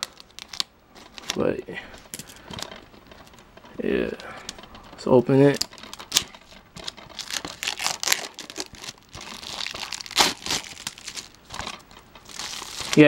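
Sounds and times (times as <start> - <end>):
plastic wrap crinkling and tearing: 0.0 - 13.0.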